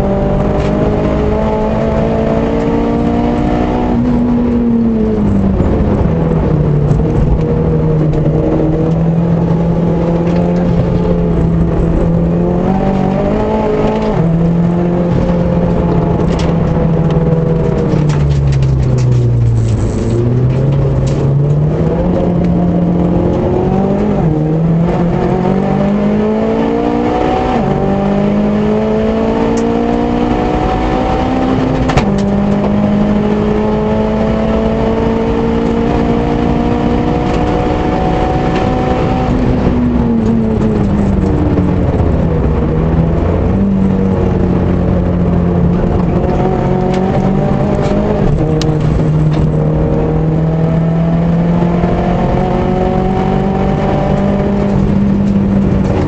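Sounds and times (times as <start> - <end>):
car engine under full throttle: 0.0 - 56.0.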